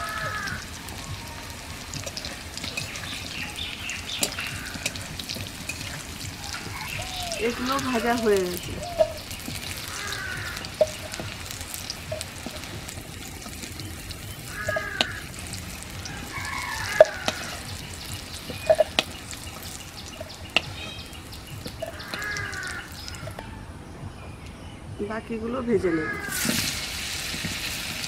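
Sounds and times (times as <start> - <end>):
vegetables sizzling in hot oil: 0.0 - 23.4, 26.2 - 28.0.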